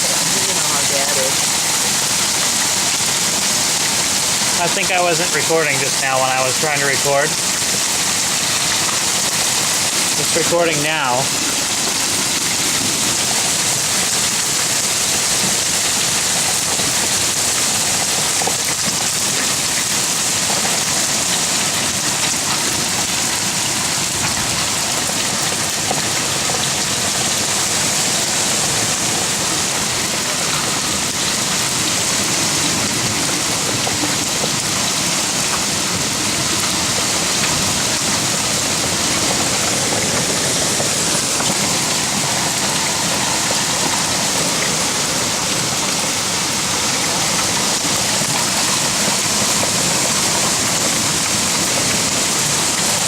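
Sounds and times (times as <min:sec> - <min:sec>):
hail and rain pelting down: 0:00.0 - 0:53.0.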